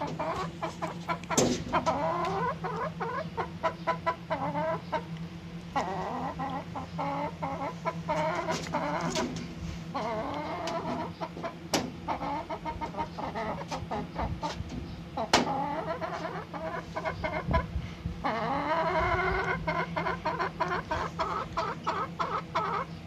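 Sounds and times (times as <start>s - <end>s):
chickens clucking: 0.0s - 23.0s
steady low hum: 0.0s - 23.0s.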